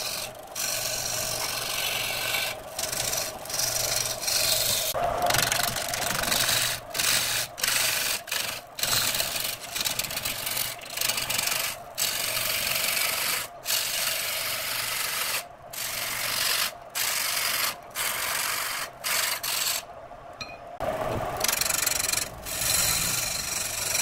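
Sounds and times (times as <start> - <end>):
lathe motor hum: 0.0 - 19.8, 20.8 - 24.0
lathe tool scraping wood: 0.0 - 19.8, 21.4 - 24.0.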